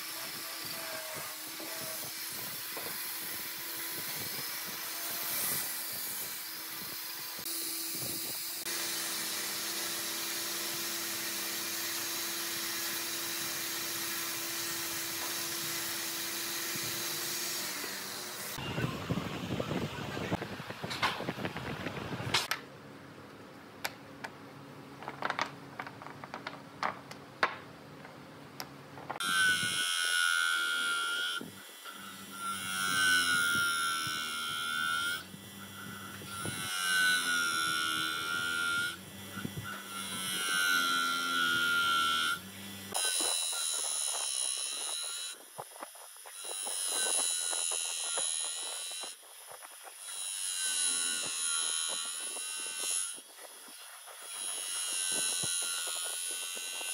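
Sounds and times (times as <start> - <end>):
bench grinder grinding wood: 0.0 - 21.0, 29.1 - 56.9.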